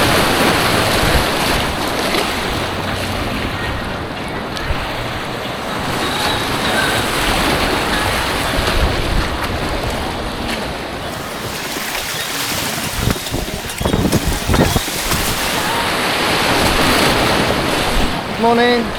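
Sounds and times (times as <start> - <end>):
churning white water rushing: 0.0 - 18.9
water splashes: 0.0 - 18.9.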